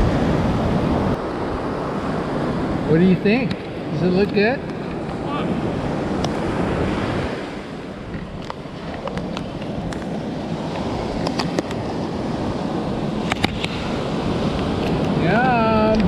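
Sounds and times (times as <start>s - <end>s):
ocean surf washing onto beach: 0.0s - 16.0s
wind buffeting microphone: 0.0s - 16.0s.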